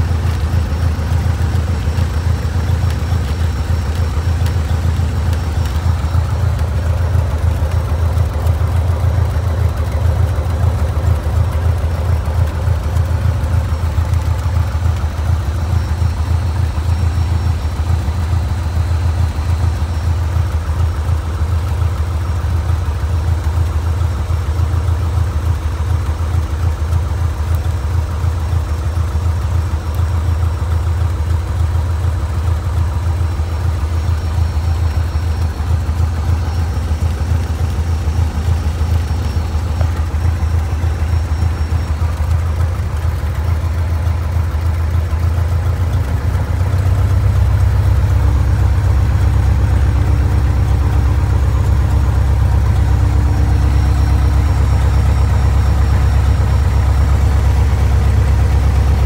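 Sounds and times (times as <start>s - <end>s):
airplane piston engine idling: 0.0s - 59.0s.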